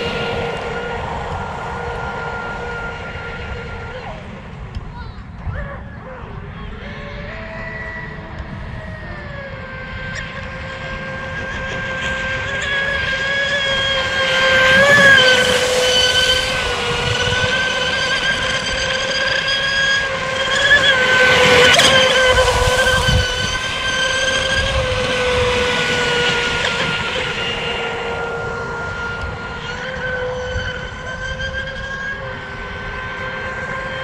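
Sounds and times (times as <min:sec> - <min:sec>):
low rushing water: 0:00.0 - 0:05.4, 0:09.5 - 0:34.0
boat motor high whine: 0:00.0 - 0:34.0.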